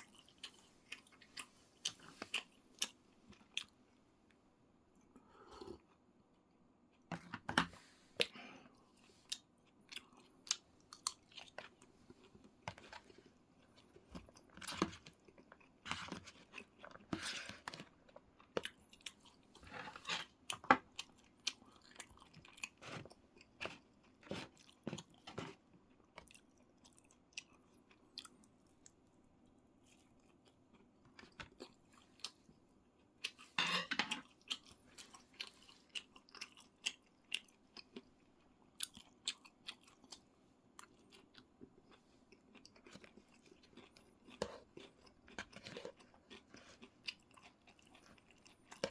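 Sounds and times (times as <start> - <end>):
person chewing: 0.0 - 3.8, 8.2 - 48.9.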